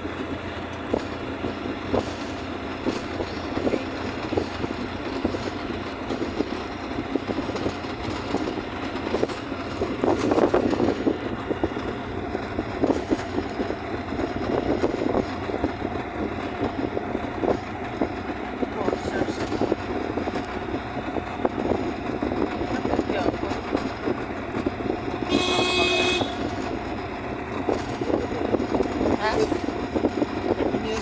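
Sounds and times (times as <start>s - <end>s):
vehicle engine rumble: 0.0s - 31.0s.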